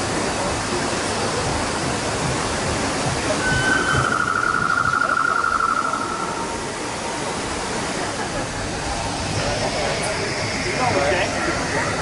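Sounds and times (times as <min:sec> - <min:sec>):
rushing water ambience: 0:00.0 - 0:12.0.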